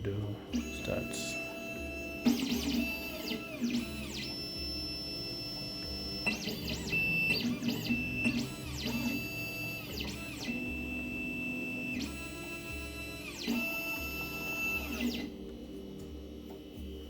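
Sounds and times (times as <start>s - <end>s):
stepper motors whining: 0.0s - 17.0s.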